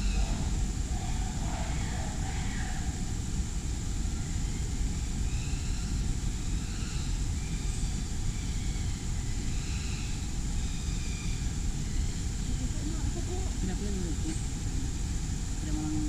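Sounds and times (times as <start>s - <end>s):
low rumbling outdoor background: 0.0s - 16.0s.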